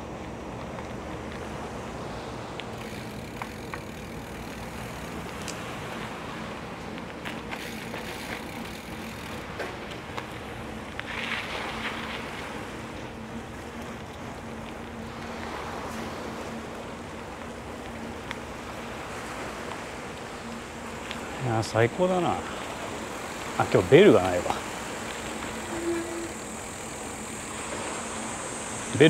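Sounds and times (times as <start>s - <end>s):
bike tyres rolling: 0.0s - 29.0s.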